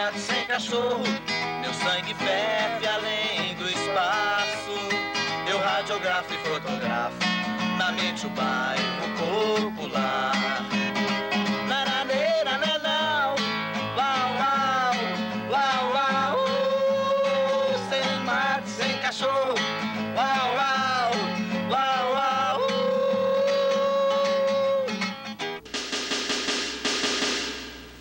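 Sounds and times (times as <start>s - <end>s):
man singing: 0.0s - 25.0s
acoustic guitar: 0.0s - 28.0s.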